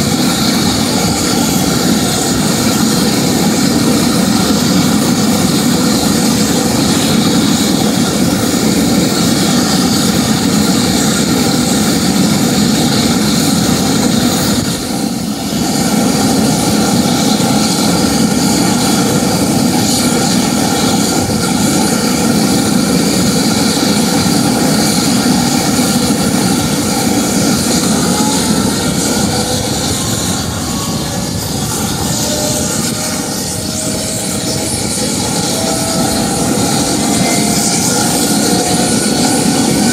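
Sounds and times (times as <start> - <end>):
aircraft engines and rotors running: 0.0 - 39.9.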